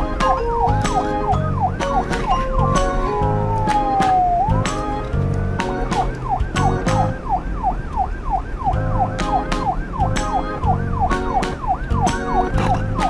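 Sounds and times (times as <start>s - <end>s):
electronic toy siren: 0.0s - 5.0s, 5.8s - 13.0s
beat with clicking percussion: 0.0s - 7.2s, 8.7s - 13.0s.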